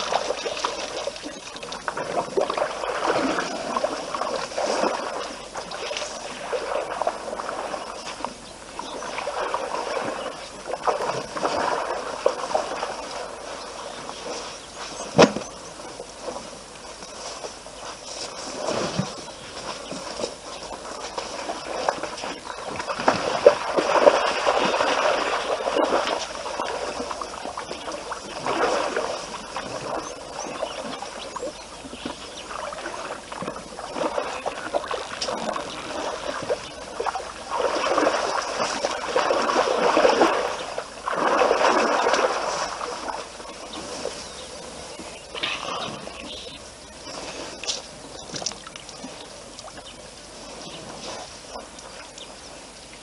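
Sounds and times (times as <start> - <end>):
water splashing and sloshing: 0.0 - 53.0.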